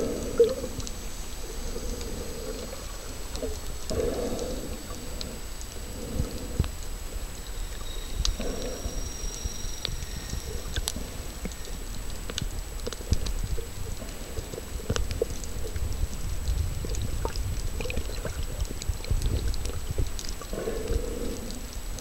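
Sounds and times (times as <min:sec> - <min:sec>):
underwater clicks and crackles: 0:00.0 - 0:22.0
underwater rumble of moving water: 0:00.0 - 0:22.0.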